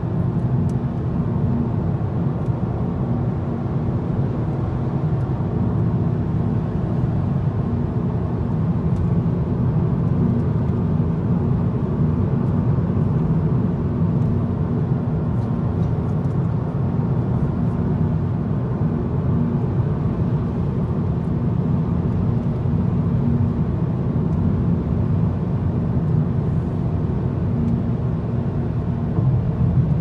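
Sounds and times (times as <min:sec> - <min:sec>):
car cabin road noise: 0:00.1 - 0:30.0.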